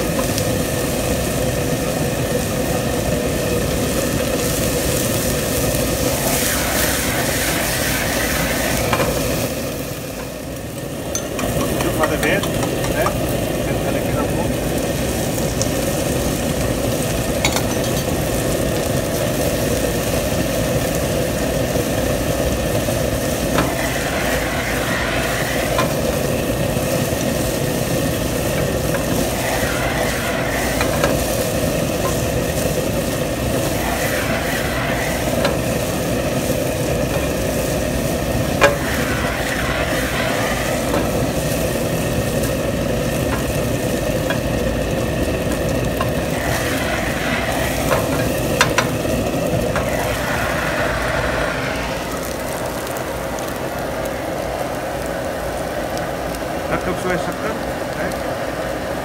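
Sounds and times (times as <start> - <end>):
food sizzling in a frying pan: 0.0 - 59.0
steady mechanical hum: 0.0 - 59.0.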